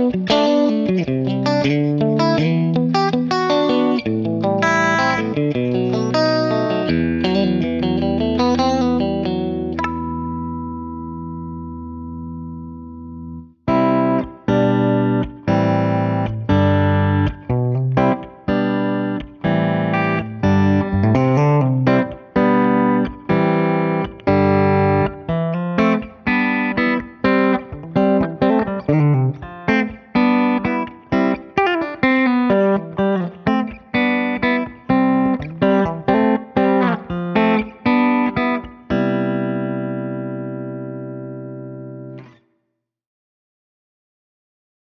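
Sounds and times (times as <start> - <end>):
clean electric guitar chords and notes: 0.0 - 42.4.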